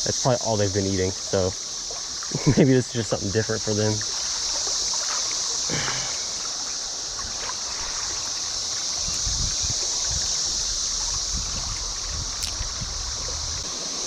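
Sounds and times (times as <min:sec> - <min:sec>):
cicadas buzzing: 0:00.0 - 0:14.0
creek running: 0:00.0 - 0:14.0.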